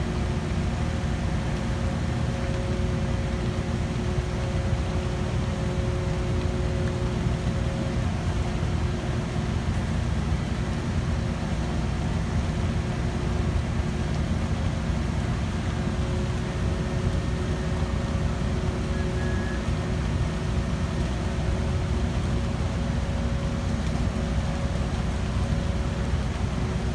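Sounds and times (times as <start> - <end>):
construction machinery engine running: 0.0 - 26.9.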